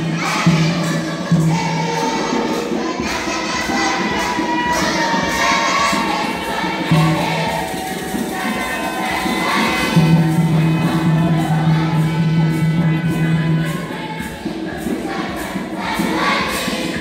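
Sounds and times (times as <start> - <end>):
children's choir singing a hymn: 0.0 - 17.0.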